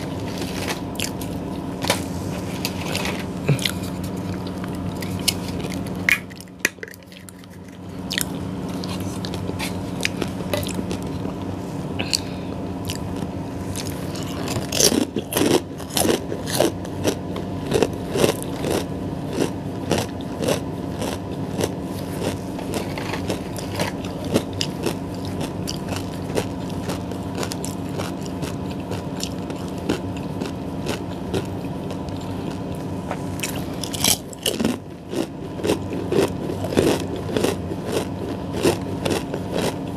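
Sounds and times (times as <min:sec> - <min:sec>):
crunchy chewing of snack: 0:00.0 - 0:39.9
steady low hum: 0:00.0 - 0:39.9.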